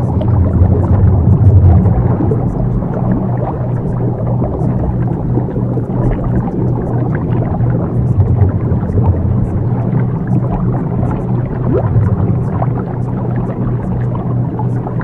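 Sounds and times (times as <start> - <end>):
muffled wash of noise: 0.0 - 15.0
steady low drone: 0.0 - 15.0.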